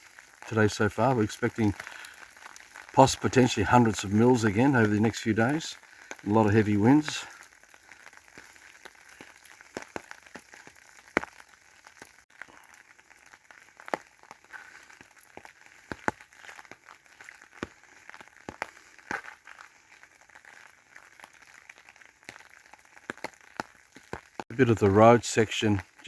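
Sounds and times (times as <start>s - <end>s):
faint rain hiss: 0.0s - 26.0s
raindrops tapping on an umbrella: 0.0s - 26.0s.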